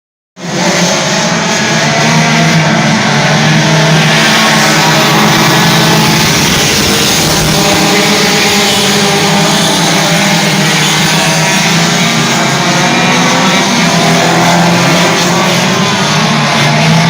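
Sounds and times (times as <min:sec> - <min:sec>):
race car engines at high revs: 0:00.4 - 0:17.0.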